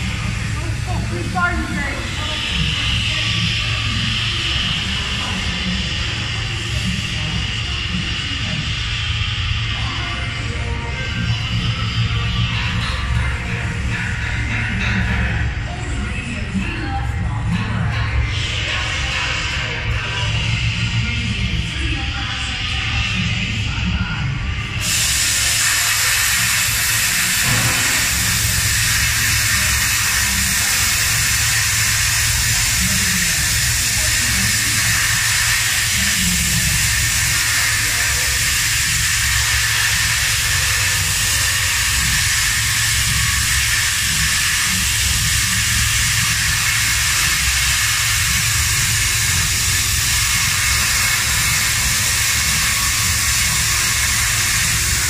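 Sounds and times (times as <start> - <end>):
plasma cutter hissing: 0.0 - 17.1, 24.7 - 55.0.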